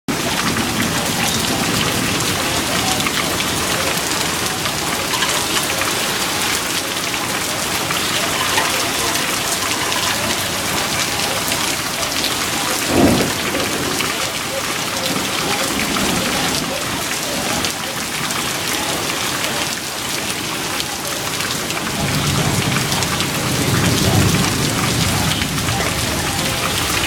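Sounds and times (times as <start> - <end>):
heavy rain falling: 0.1 - 27.0.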